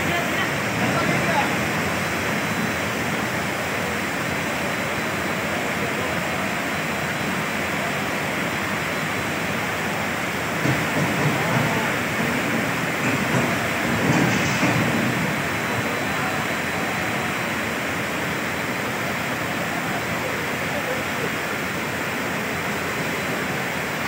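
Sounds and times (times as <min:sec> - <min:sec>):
rushing roar of floodwater: 0:00.0 - 0:24.0.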